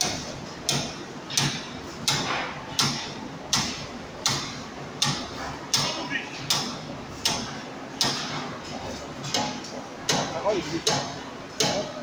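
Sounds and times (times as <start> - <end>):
continuous mechanical hiss: 0.0 - 12.0.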